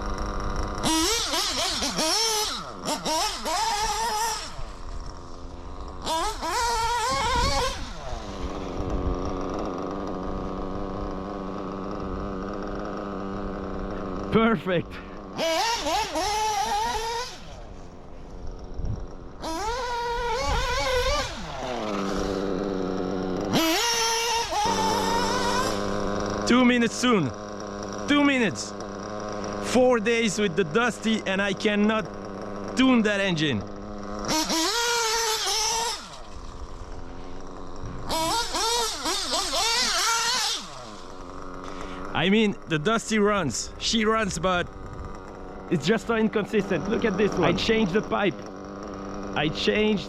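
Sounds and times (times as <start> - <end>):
small nitro engine revving: 0.0 - 50.0.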